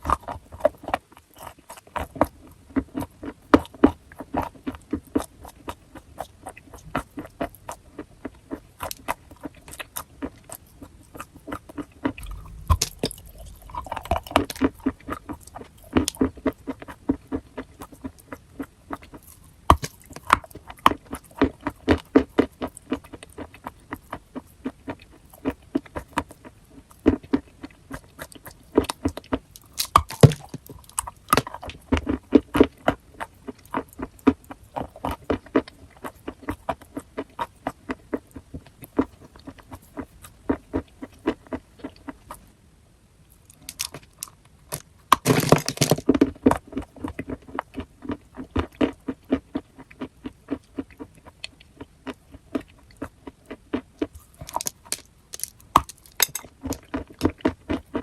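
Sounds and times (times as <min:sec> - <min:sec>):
chewing crunchy chalk: 0:00.0 - 0:42.5, 0:43.4 - 0:58.0.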